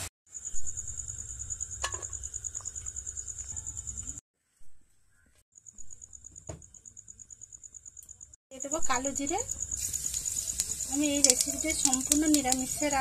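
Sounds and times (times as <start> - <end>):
cricket chirping: 0.3 - 4.2, 5.1 - 13.0.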